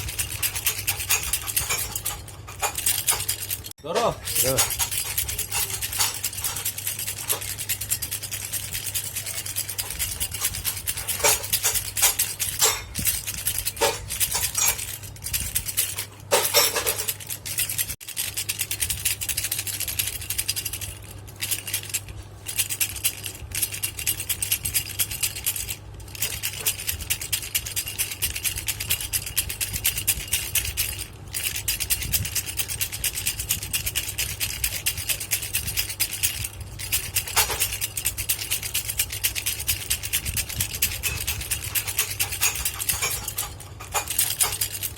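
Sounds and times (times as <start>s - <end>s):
baby rattle shaking: 0.0s - 44.9s
low steady hum: 0.0s - 44.9s.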